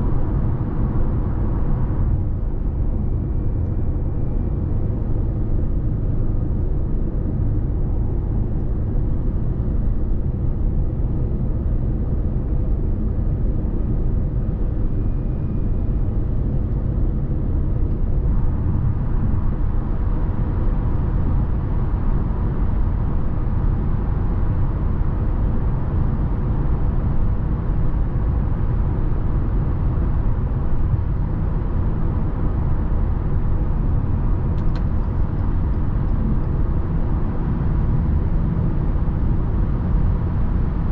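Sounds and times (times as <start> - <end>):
drivetrain drone: 0.0 - 40.9
road and tyre rumble: 0.0 - 40.9.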